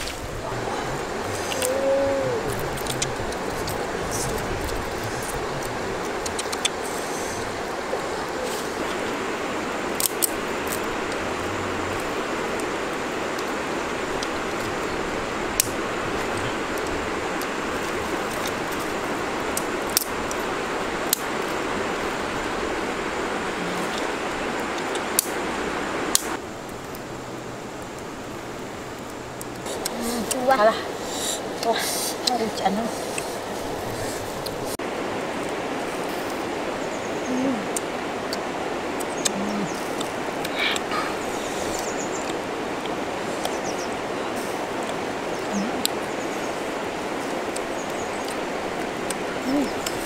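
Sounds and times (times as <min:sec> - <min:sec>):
wood fire hissing and crackling: 0:00.0 - 0:50.0.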